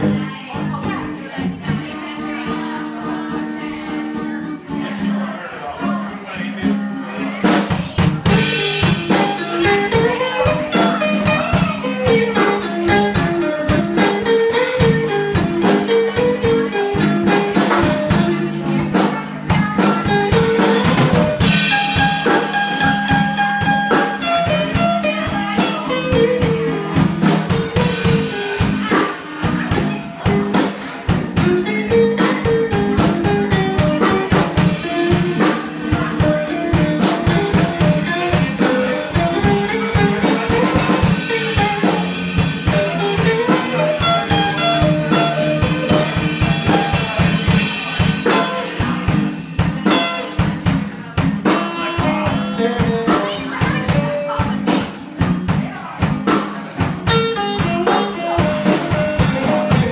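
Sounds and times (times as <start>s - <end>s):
drum kit beat: 0.0s - 6.0s, 6.6s - 59.9s
electric guitars playing: 0.0s - 59.9s.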